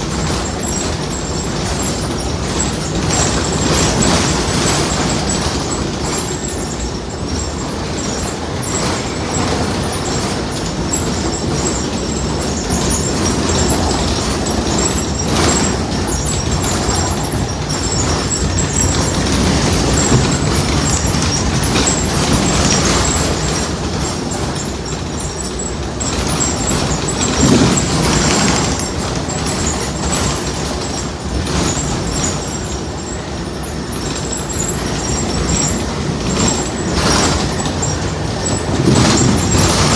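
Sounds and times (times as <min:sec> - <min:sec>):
bus rumbling on road: 0:00.0 - 0:39.9.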